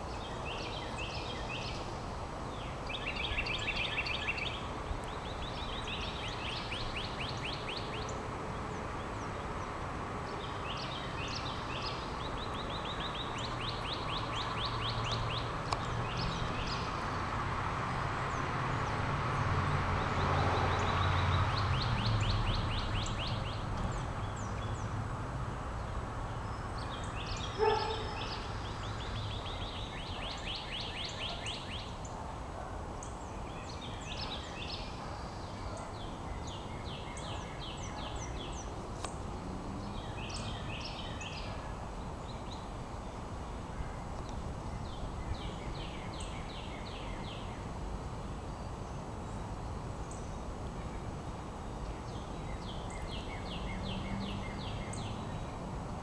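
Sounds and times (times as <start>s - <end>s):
songbirds singing and trilling: 0.0s - 56.0s.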